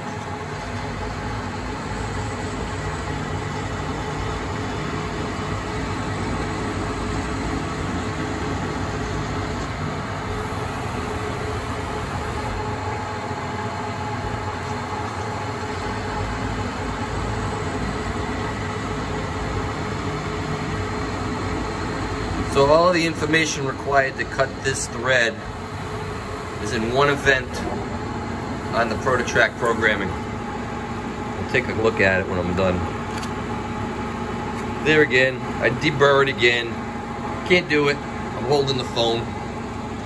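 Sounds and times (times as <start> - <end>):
lathe spindle and drive noise: 0.0 - 40.0.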